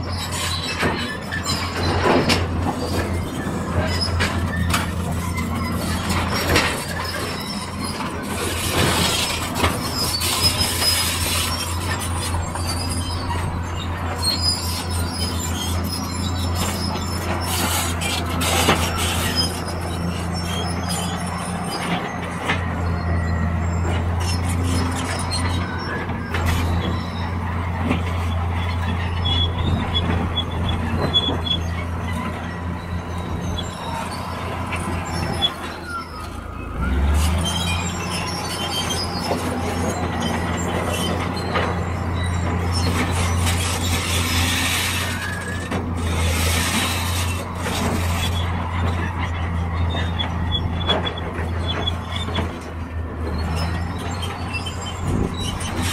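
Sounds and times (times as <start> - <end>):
excavator diesel engine hum: 0.0 - 55.9
short metallic squeals: 0.0 - 55.9.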